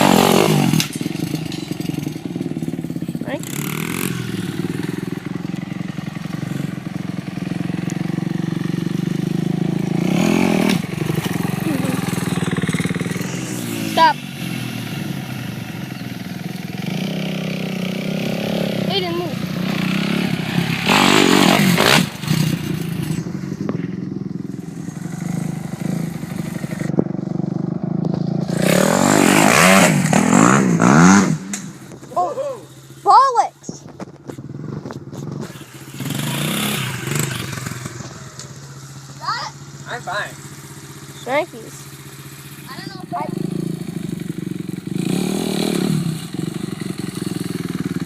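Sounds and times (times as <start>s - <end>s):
dirt bike engine running: 0.0s - 48.0s.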